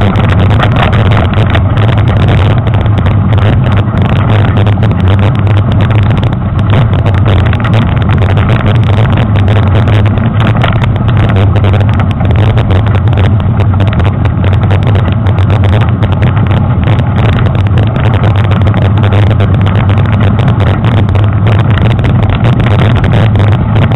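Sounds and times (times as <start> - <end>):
bike rattling and knocking: 0.0 - 23.9
wind and tyre rumble: 0.0 - 23.9.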